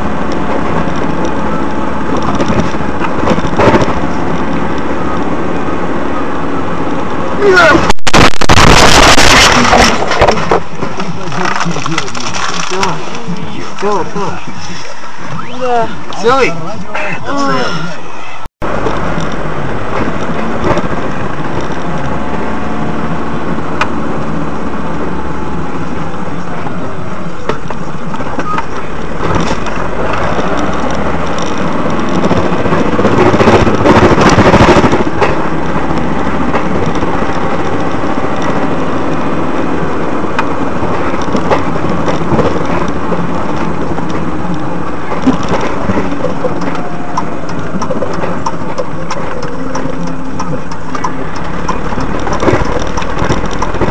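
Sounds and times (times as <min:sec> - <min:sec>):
vehicle engine and road rumble: 0:00.0 - 0:53.9.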